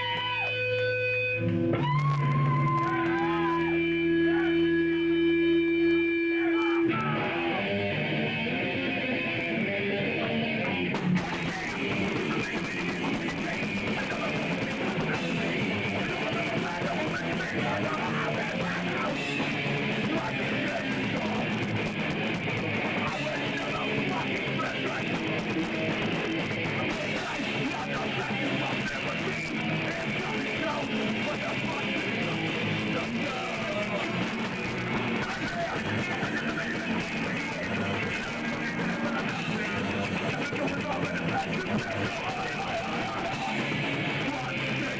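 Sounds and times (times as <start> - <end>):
electric guitars: 0.0 - 44.9
punk rock band playing live: 0.0 - 44.9.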